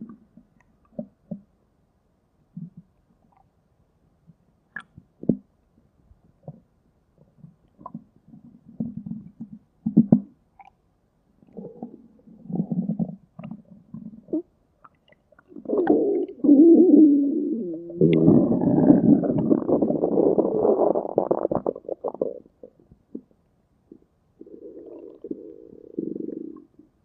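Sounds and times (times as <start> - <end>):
stomach rumbling: 2.5 - 3.5, 4.3 - 5.5, 6.3 - 10.8, 11.4 - 27.0.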